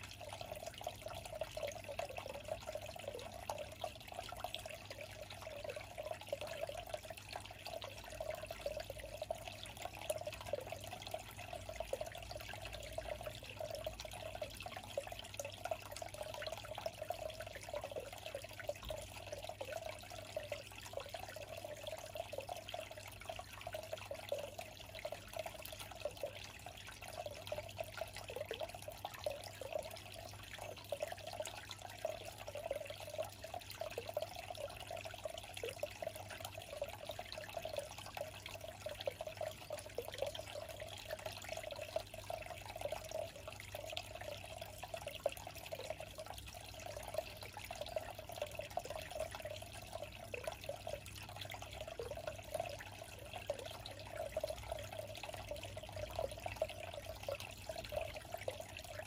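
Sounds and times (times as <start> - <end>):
trickle of running water: 0.0 - 59.0.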